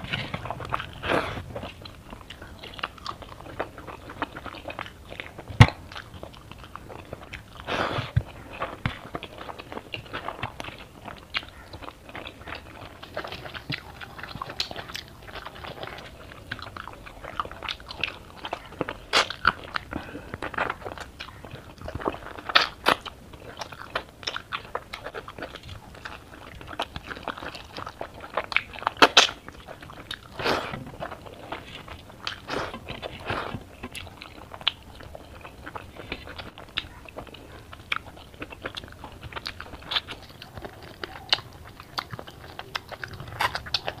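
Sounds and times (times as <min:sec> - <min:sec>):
chewing and biting food: 0:00.0 - 0:44.0.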